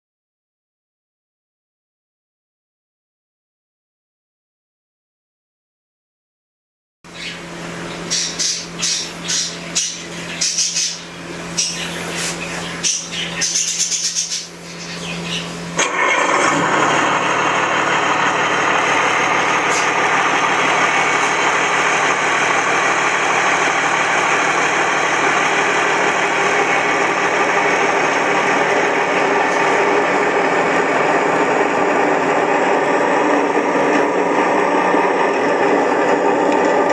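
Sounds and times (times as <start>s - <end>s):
engine running: 7.1s - 36.9s.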